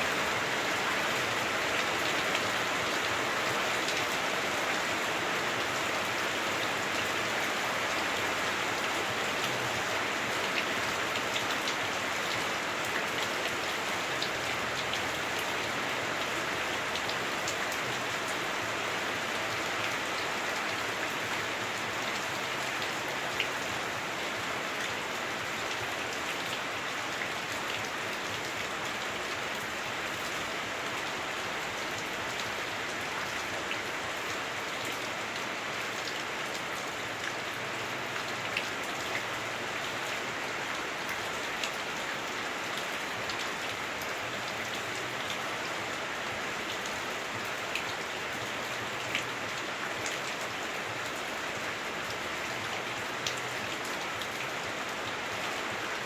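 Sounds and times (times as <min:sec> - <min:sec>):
heavy rain on roof: 0:00.0 - 0:56.0.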